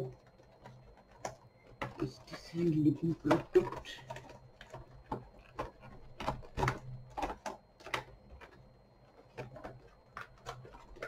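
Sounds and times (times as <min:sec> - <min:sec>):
packaging clicks and rustles: 0:00.0 - 0:11.0.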